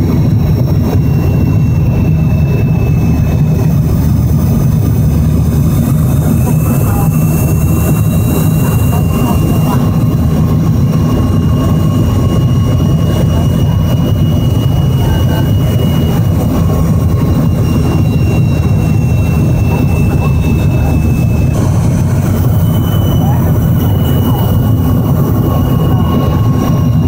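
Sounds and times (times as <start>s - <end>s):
deep rumble of jet engines: 0.0s - 27.0s
high engine whine: 0.0s - 27.0s.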